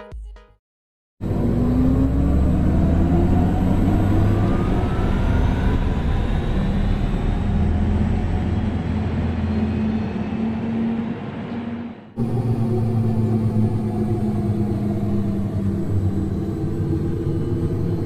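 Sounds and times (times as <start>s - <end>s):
faint rising whine: 1.2s - 18.0s
road and wind noise: 1.2s - 18.0s.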